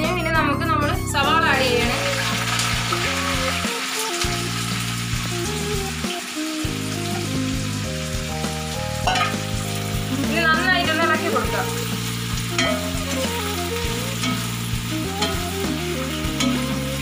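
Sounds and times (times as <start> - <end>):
instrumental background music: 0.0 - 17.0
onions sizzling in hot oil: 1.2 - 17.0.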